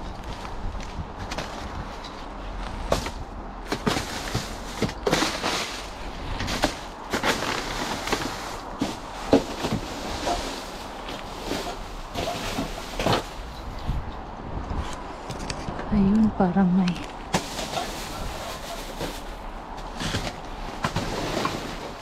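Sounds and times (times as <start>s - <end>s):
rustling of plastic bags: 0.0s - 14.0s, 17.0s - 22.0s.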